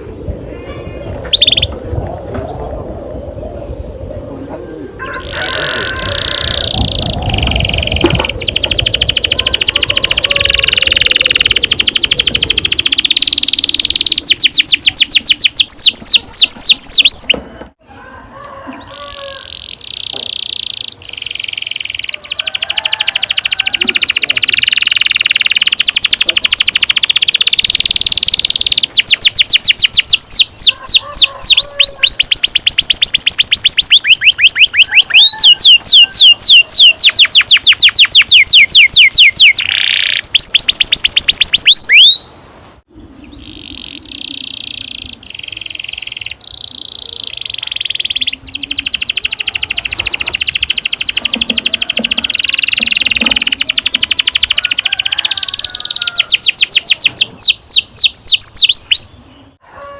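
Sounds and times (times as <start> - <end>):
canary singing trills: 0.0 - 1.8, 4.7 - 17.7, 18.8 - 42.3, 43.0 - 59.9.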